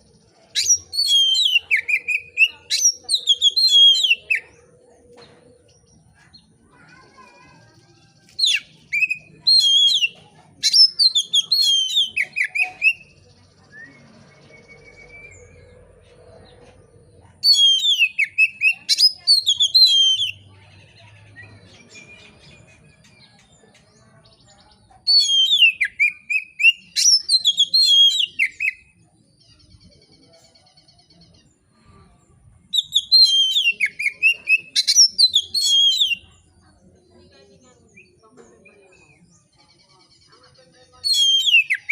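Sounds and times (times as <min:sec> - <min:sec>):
songbird whistling song: 0:00.0 - 0:07.2, 0:07.9 - 0:16.8, 0:17.4 - 0:31.6, 0:32.7 - 0:36.5, 0:37.9 - 0:41.9.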